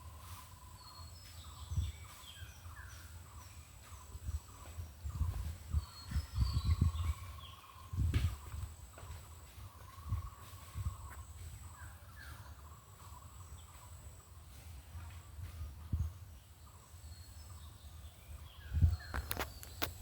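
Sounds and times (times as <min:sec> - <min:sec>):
faint bird chirps: 0:00.0 - 0:20.0
wind rumble on microphone: 0:00.0 - 0:20.0.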